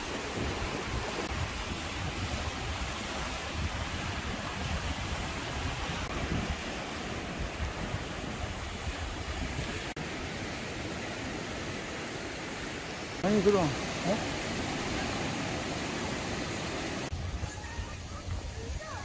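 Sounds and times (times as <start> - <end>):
wind buffeting microphone: 0.0 - 12.0, 12.8 - 19.0
waves breaking on rocky shore: 0.0 - 19.0.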